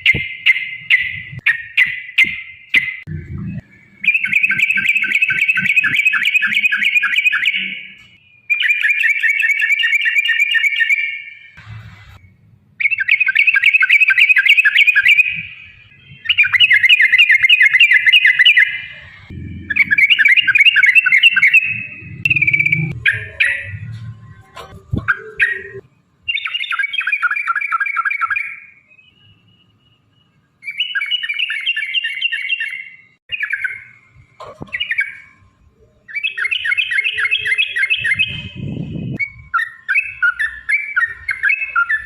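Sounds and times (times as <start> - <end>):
bird singing fast trills: 0.0 - 11.6, 12.2 - 23.9, 25.0 - 29.6, 30.6 - 34.0, 36.0 - 42.0.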